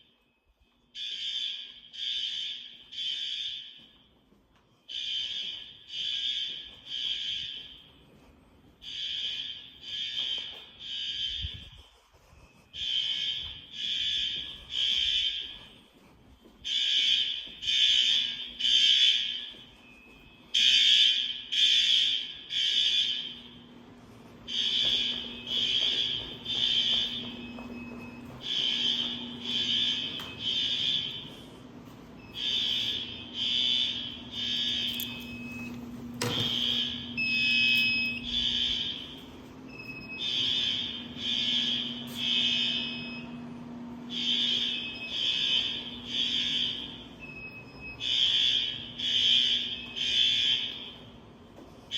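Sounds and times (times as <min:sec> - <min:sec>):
fire alarm beeping: 0:00.0 - 0:51.9
steady low hum: 0:01.8 - 0:51.9.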